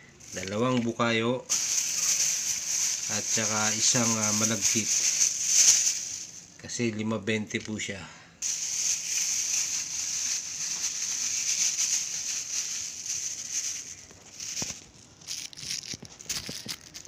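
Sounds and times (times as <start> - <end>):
plastic bag rustling: 0.0 - 6.6, 8.4 - 17.0.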